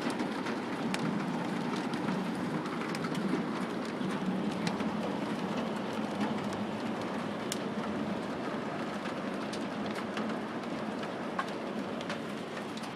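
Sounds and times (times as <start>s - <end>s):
hail falling: 0.0s - 12.9s
hailstones ticking: 0.0s - 12.9s.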